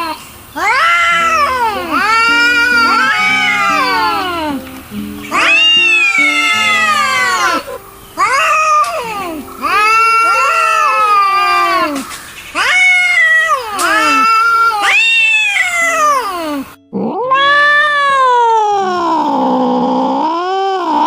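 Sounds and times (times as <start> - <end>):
cats yowling: 0.0 - 21.0.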